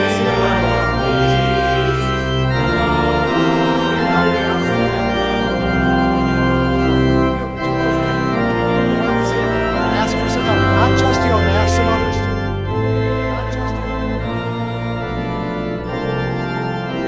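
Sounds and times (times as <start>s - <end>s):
church organ playing chords: 0.0s - 17.0s.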